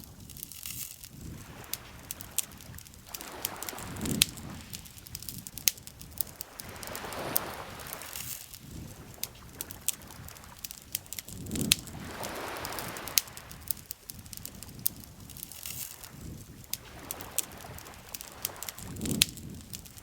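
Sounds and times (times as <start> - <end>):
campfire crackling and popping: 0.0 - 20.0
lake water lapping: 0.0 - 20.0.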